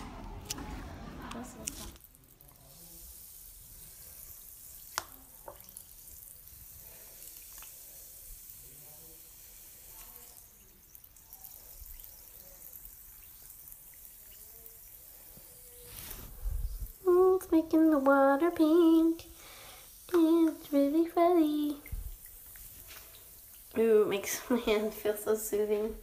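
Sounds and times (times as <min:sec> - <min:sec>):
bath bomb fizzing in water: 0:01.3 - 0:26.0.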